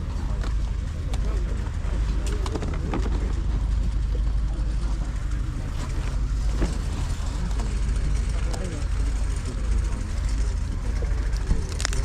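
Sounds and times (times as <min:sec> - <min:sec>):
faint indistinct voices: 0:00.0 - 0:12.0
low rumble: 0:00.0 - 0:12.0.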